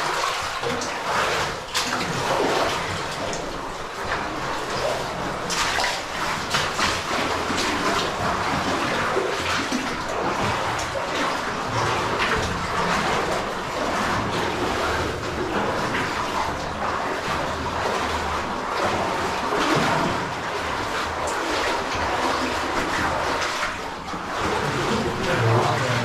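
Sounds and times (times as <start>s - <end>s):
cave stream rushing: 0.0s - 26.0s
short water splashes: 0.0s - 26.0s.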